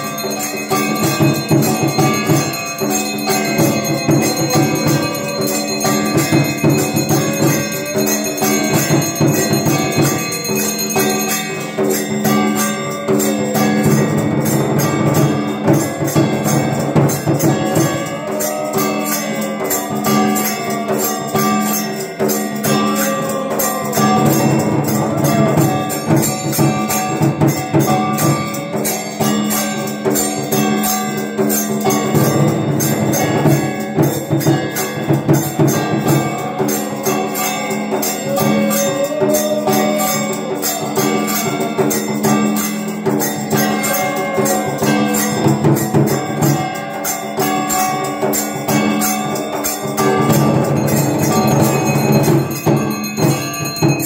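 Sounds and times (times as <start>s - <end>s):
hand bells ringing rapidly: 0.0s - 54.0s.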